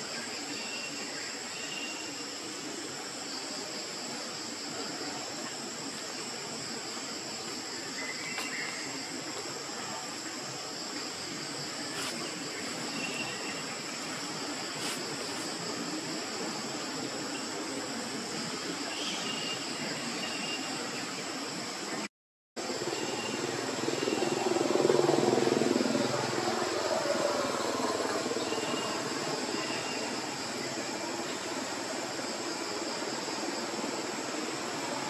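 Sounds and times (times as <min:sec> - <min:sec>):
insects buzzing drone: 0:00.0 - 0:35.0.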